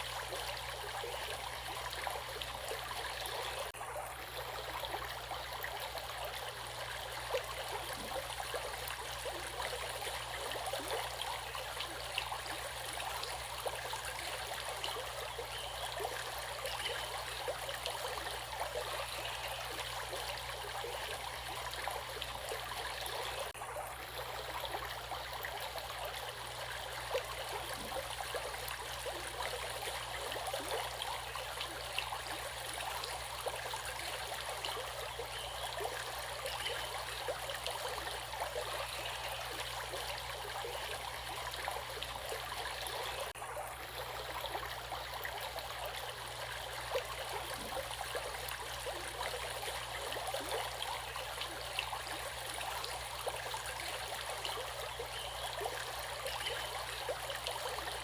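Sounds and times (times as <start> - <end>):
small water splashes: 0.0 - 58.0.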